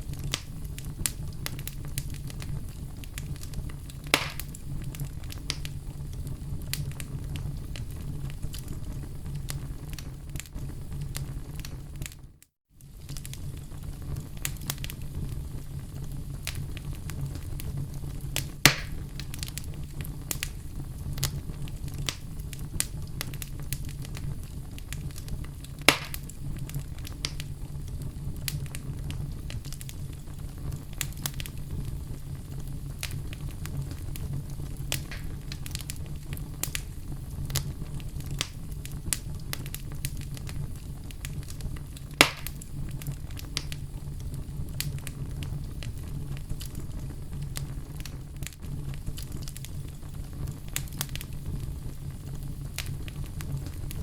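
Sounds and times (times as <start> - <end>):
fire snapping: 0.0 - 54.0
fireplace crackling: 0.0 - 54.0
flames rumbling: 0.0 - 54.0.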